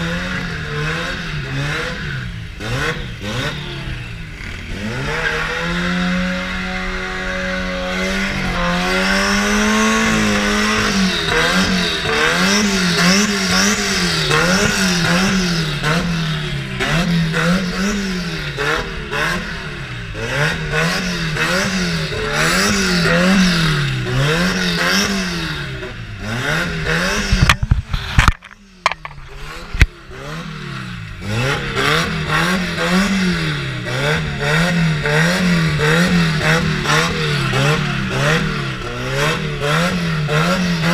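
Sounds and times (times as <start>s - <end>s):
vehicle engine revving: 0.0s - 40.9s.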